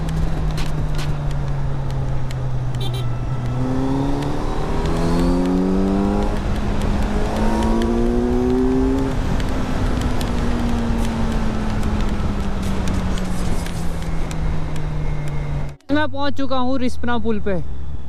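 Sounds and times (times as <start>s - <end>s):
motorcycle engine accelerating: 0.0s - 15.8s.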